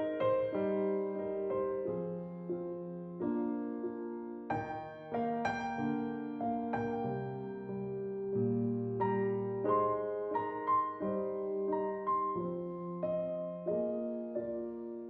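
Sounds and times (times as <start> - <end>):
gentle slow piano music: 0.0 - 15.0.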